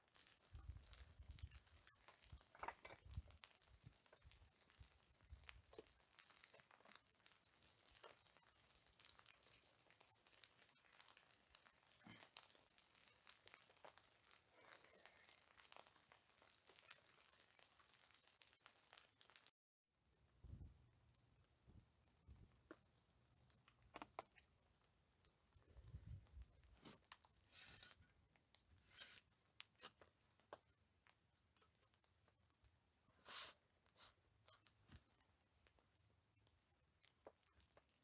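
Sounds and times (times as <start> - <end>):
faint clicks and rustling: 0.0 - 19.5, 20.7 - 38.0.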